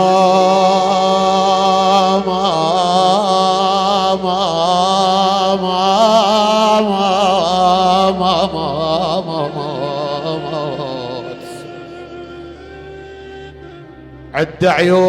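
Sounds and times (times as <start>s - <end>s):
man chanting a lament: 0.0s - 12.8s, 14.3s - 15.0s.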